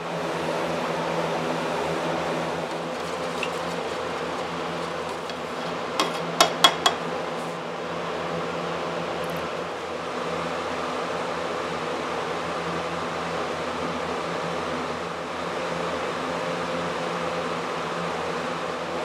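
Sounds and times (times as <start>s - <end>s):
window fan humming: 0.0s - 19.0s.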